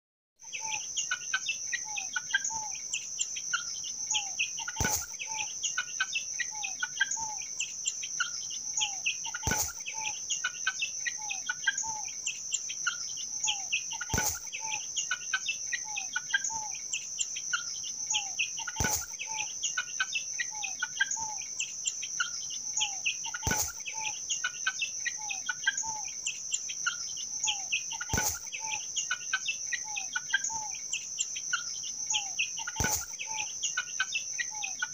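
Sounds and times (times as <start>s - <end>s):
chicks peeping: 0.5s - 34.9s
high insect buzz: 2.4s - 34.9s.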